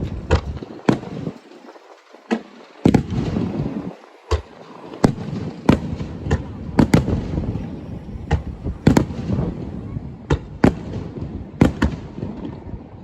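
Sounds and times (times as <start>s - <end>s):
low rumbling echo: 0.0s - 12.6s
fireworks bangs: 0.0s - 12.7s.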